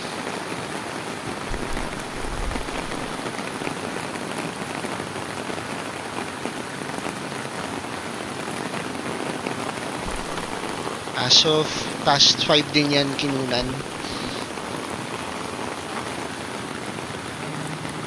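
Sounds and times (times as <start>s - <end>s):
heavy rain on floodwater: 0.0s - 18.0s.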